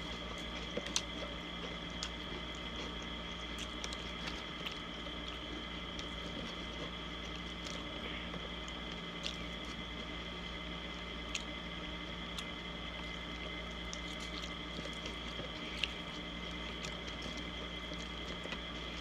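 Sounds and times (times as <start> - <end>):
background hum: 0.0 - 19.0
soft wet chewing: 0.0 - 19.0.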